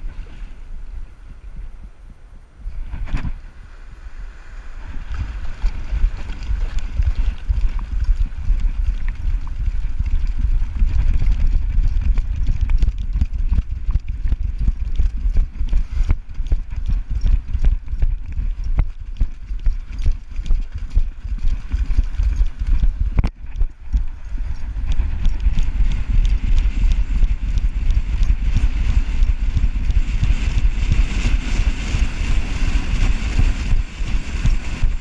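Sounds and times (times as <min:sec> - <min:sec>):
paws thumping on wet sand: 0:05.1 - 0:35.0.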